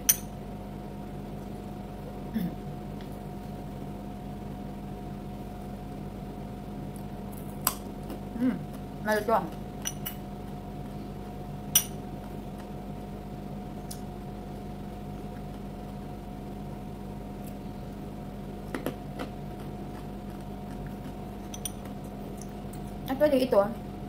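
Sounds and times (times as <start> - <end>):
electrical hum with hiss: 0.0 - 24.0.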